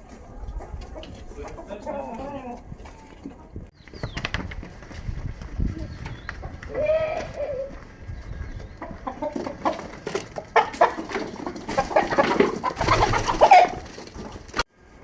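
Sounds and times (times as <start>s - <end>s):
chickens clucking: 0.0s - 4.4s, 5.0s - 14.7s.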